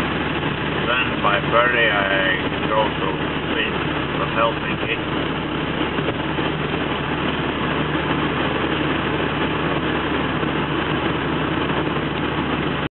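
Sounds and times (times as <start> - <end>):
low engine hum: 0.0 - 12.9.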